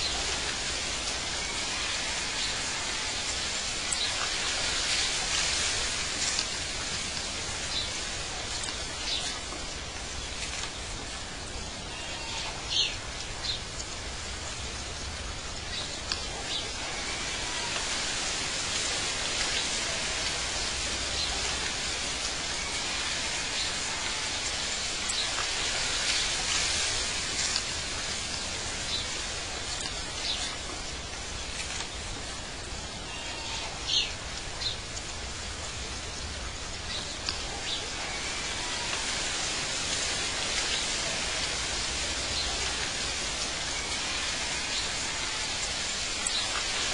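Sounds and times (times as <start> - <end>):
steady even hiss: 0.0 - 46.9.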